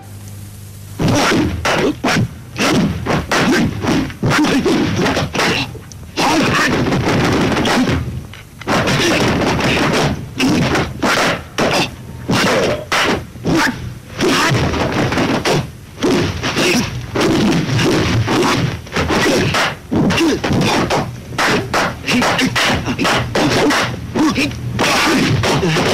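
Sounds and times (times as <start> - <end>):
punch and slap sound effects: 1.0 - 8.1, 8.7 - 25.9.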